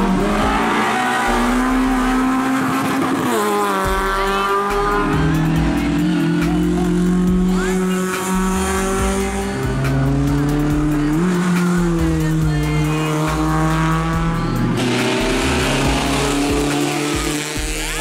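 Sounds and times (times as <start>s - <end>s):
race cars driving past at high revs: 0.0s - 18.0s.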